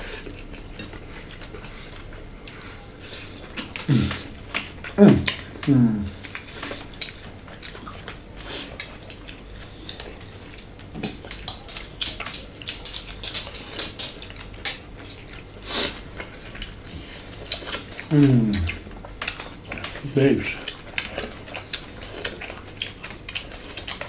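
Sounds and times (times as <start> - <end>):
crunching and chewing salad: 0.0 - 24.0
food clicking against bowls: 0.2 - 24.0.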